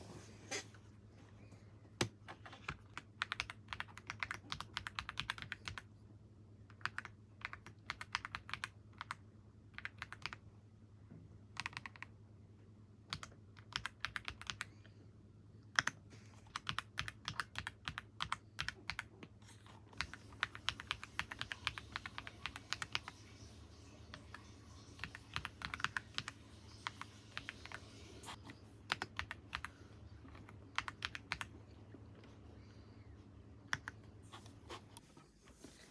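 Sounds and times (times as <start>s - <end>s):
low steady hum: 0.0s - 35.9s.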